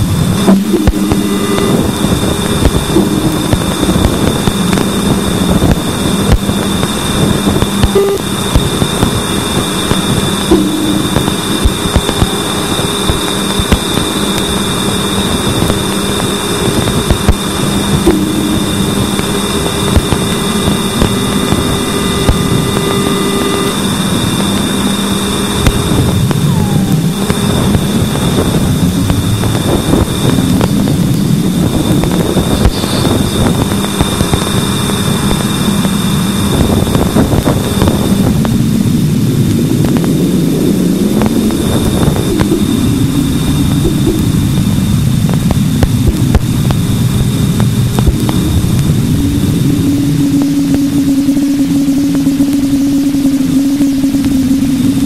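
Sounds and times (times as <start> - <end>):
dense crackling static: 0.0 - 55.0
steady electronic tones: 0.0 - 55.0.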